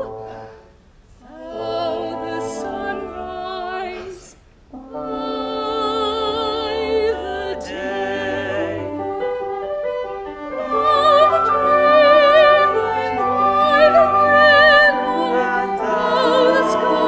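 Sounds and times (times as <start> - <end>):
small string orchestra: 0.0 - 17.0
operatic duet singing: 1.2 - 17.0.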